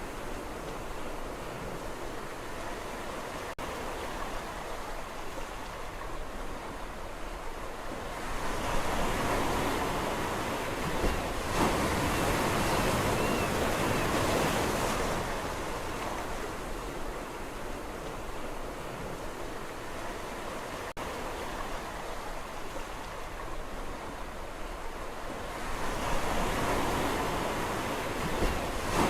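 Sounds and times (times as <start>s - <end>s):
sea surf washing on shore: 0.0s - 29.0s.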